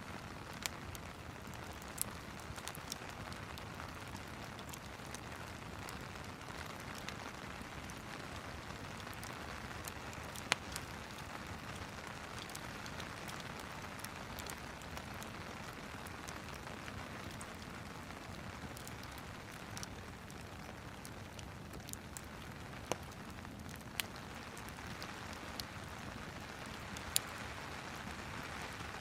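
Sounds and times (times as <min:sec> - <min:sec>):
rain hiss: 0:00.0 - 0:29.0
fireplace crackling: 0:00.1 - 0:29.0.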